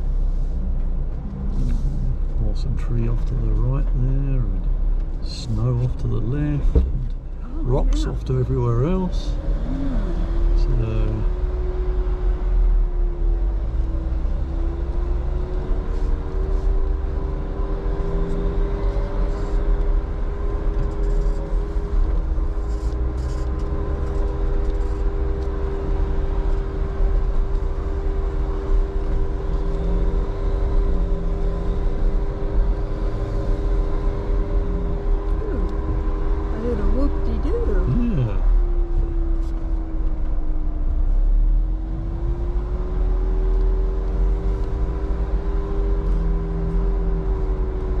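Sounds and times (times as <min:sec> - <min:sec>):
vehicle engine running steadily: 0:00.0 - 0:48.0.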